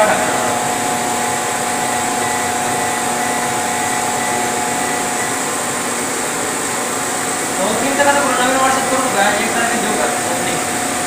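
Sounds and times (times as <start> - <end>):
laser cutting machine whirring: 0.0 - 11.0.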